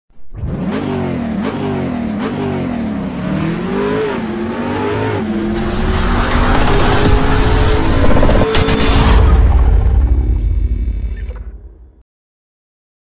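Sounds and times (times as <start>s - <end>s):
car engine revving: 0.2s - 11.4s.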